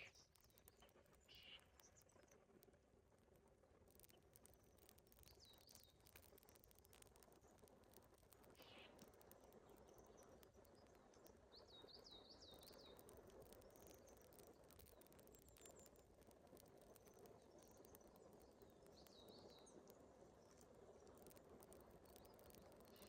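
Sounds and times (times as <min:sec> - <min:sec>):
small bird chirping: 0:00.0 - 0:02.4, 0:04.0 - 0:23.0
faint outdoor hiss: 0:00.0 - 0:23.0.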